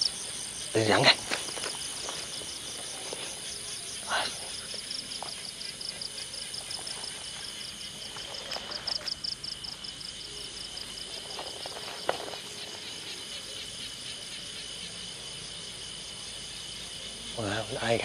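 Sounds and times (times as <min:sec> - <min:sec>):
high insect drone: 0:00.0 - 0:18.0
insects chirping: 0:00.0 - 0:18.0
rapid pulsing insect trill: 0:00.0 - 0:18.0.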